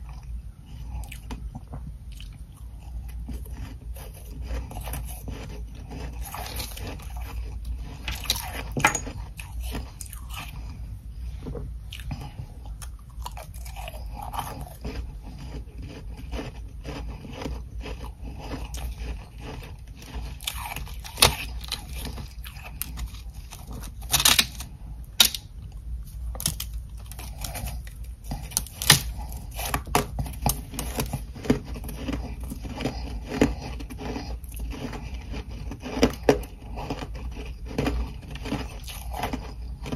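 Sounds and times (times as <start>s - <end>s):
chewing and grinding: 0.0s - 39.9s
steady low hum: 0.0s - 39.9s
ice crunching between teeth: 2.2s - 10.7s, 13.0s - 39.9s.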